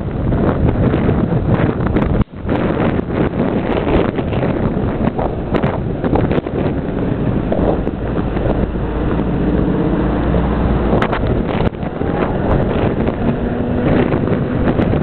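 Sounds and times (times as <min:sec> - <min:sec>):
low engine drone: 0:00.0 - 0:15.0
wind buffeting microphone: 0:00.0 - 0:15.0.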